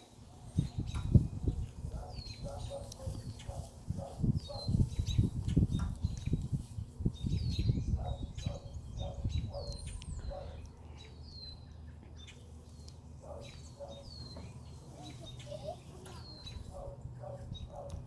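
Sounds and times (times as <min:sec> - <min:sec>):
bird chirping: 0:02.0 - 0:03.6, 0:04.4 - 0:06.4, 0:07.2 - 0:18.0.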